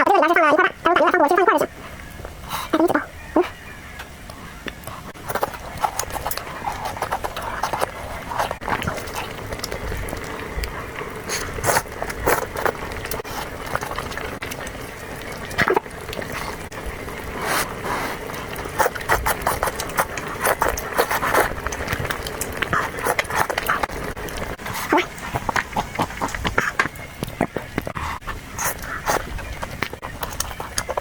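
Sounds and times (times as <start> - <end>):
wet chewing and lip-smacking: 0.0 - 31.0.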